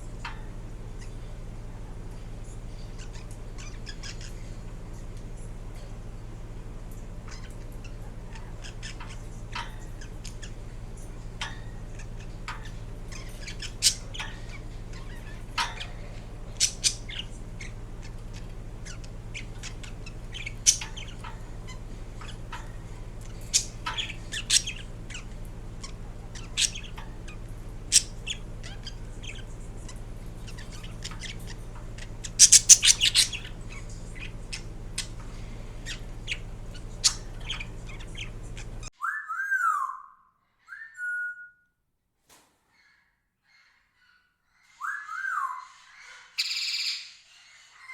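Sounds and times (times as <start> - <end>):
steady low hum: 0.0 - 39.0
parakeet chirps and squawks: 0.0 - 40.1, 44.8 - 47.9.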